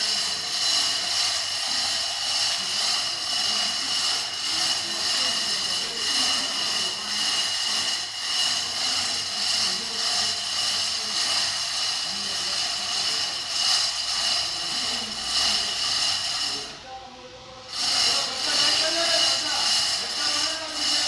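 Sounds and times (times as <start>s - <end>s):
faint voices: 0.0s - 21.0s.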